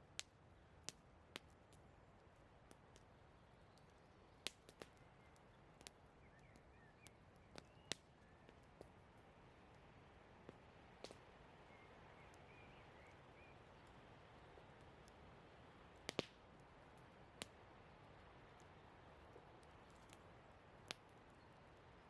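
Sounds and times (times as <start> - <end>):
campfire wood crackling: 0.0 - 22.0
faint steady hiss: 0.0 - 22.0.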